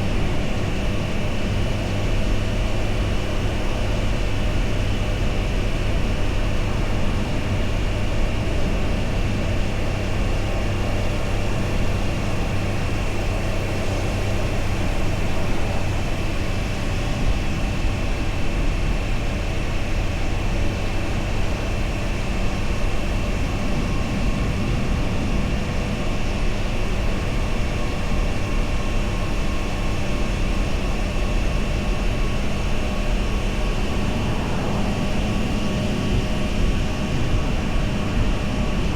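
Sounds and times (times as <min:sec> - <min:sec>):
road noise: 0:00.0 - 0:38.9
wind noise: 0:05.7 - 0:38.9.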